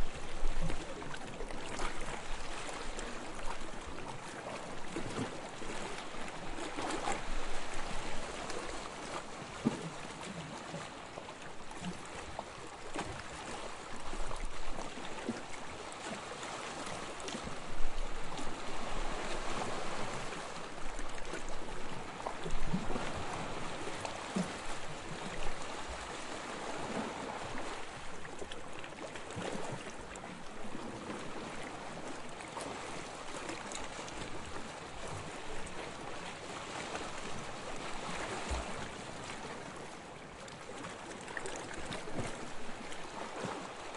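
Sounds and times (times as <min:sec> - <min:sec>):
small waves lapping on sand: 0:00.0 - 0:43.9.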